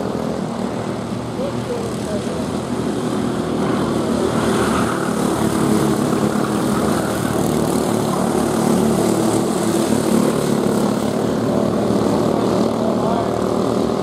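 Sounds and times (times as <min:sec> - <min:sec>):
go-kart engines buzzing: 0:00.0 - 0:14.0.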